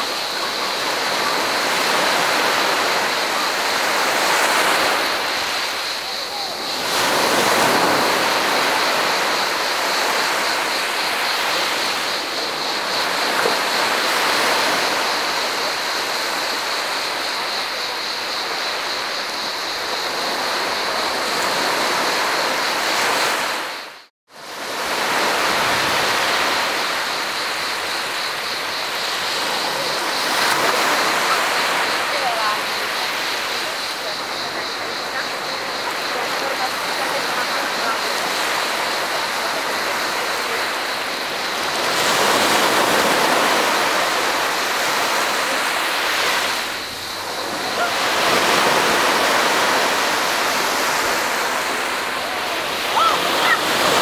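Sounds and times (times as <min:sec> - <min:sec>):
cicadas buzzing: 0:00.0 - 0:54.0
small waves breaking on sand: 0:00.0 - 0:54.0.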